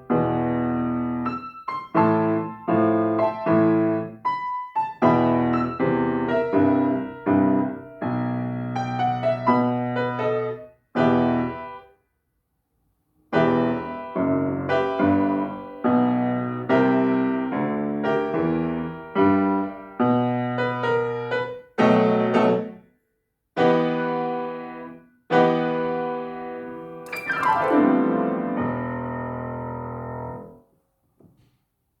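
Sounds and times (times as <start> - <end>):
blues piano: 0.0 - 11.8, 13.4 - 22.8, 23.6 - 30.5.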